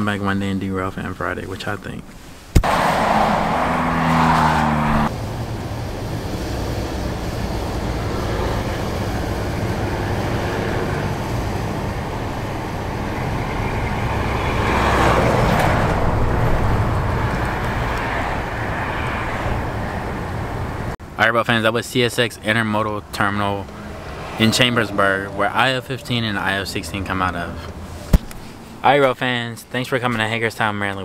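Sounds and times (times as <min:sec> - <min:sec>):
car cabin road noise: 0:00.9 - 0:21.2, 0:22.0 - 0:31.0.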